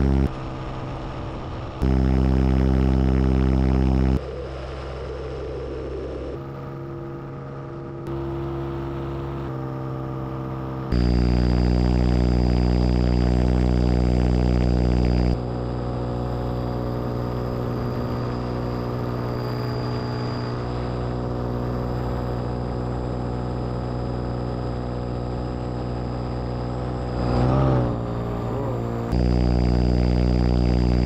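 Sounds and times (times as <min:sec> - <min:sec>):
paramotor engine droning: 0:00.0 - 0:31.0.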